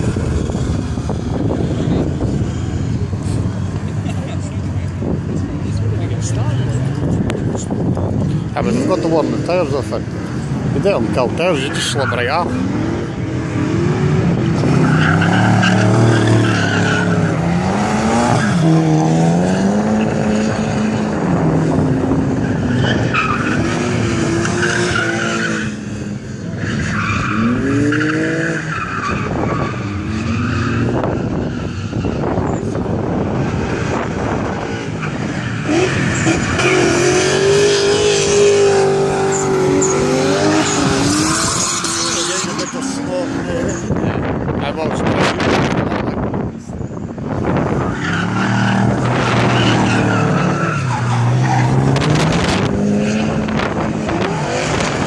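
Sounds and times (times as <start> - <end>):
car engine revving: 0.0 - 55.0
tyres skidding and squealing: 0.0 - 55.0.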